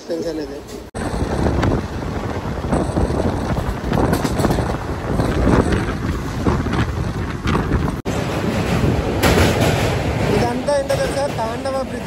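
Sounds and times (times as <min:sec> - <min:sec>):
train wheels rumbling and rattling: 0:00.6 - 0:12.0
wind buffeting microphone: 0:01.0 - 0:12.0.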